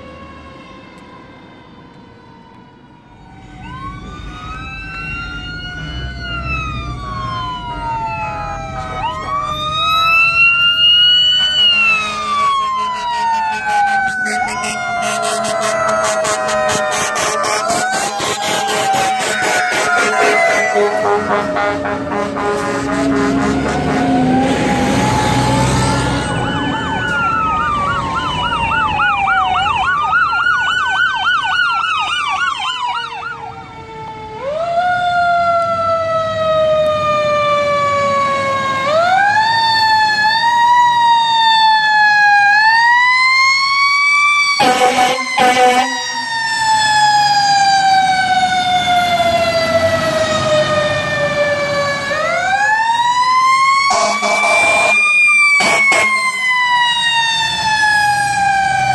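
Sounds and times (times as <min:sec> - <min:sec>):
fire truck siren wailing and yelping: 0:00.0 - 0:58.9
winding fire truck siren: 0:00.0 - 0:58.9.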